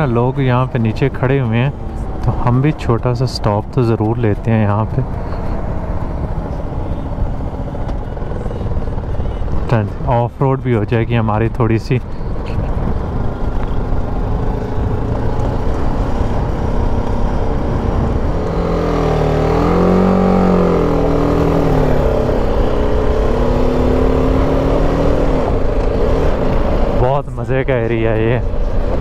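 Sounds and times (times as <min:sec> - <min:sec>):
motorcycle engine running: 0:00.0 - 0:29.0
road noise rumble: 0:00.0 - 0:29.0.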